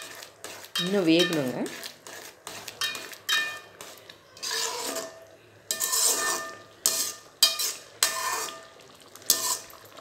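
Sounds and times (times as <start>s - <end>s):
metal ladle scraping a pan: 0.0s - 10.0s.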